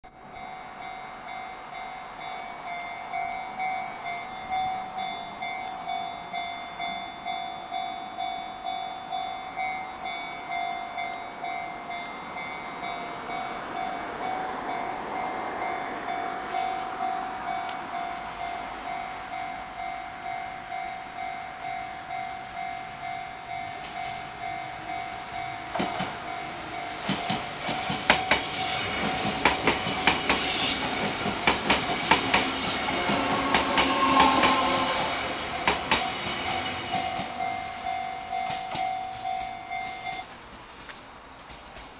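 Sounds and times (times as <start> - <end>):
electric train passing: 0.1 - 41.9.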